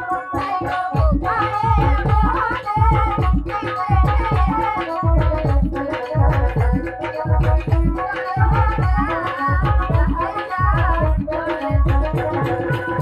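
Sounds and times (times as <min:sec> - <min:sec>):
dance music with hand drums: 0:00.0 - 0:13.0.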